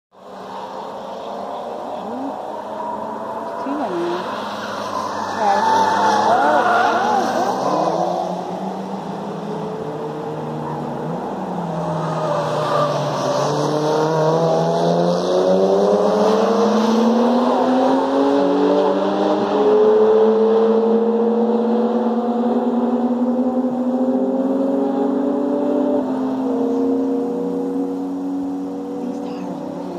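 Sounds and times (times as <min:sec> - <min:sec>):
race car engines accelerating: 0:00.2 - 0:29.9.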